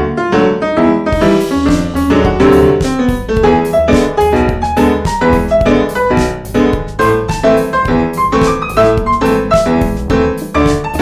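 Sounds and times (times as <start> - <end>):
instrumental music with low bass: 1.0 - 11.0.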